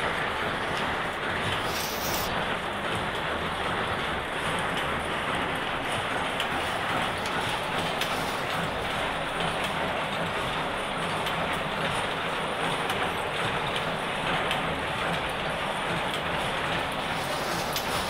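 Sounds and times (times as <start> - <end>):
weaving machine clattering: 0.0 - 18.0.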